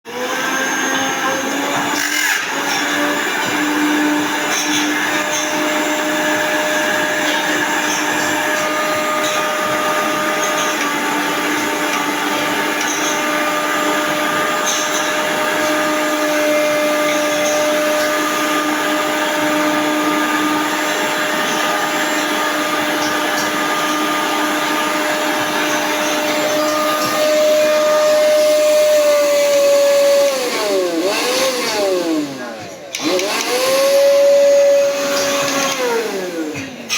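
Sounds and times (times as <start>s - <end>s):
mixer grinder motor whining: 0.1s - 36.9s.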